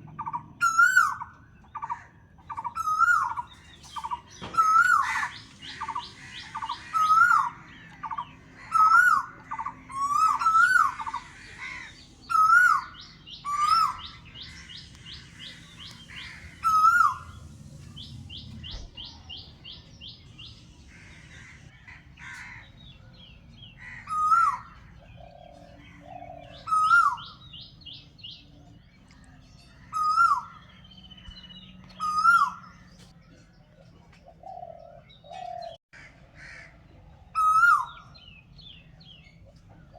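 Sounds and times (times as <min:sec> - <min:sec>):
high bird chirps and trills: 0:00.0 - 0:33.6, 0:37.3 - 0:39.7.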